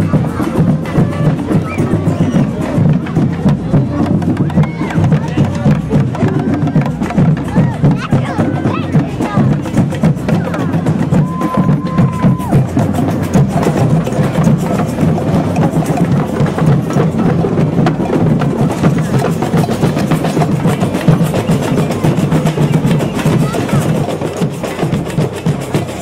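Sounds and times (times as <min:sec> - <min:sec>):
street band drums and saxophone: 0:00.0 - 0:26.0.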